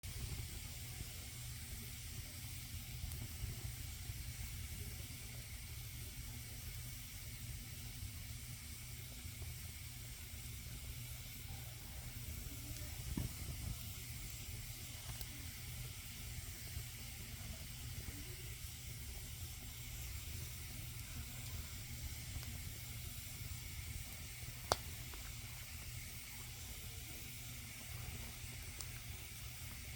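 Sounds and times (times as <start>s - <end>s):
campfire pop: 0.0s - 8.4s, 9.0s - 29.9s
campfire crackle: 0.0s - 29.9s
campfire hissing: 0.0s - 29.9s.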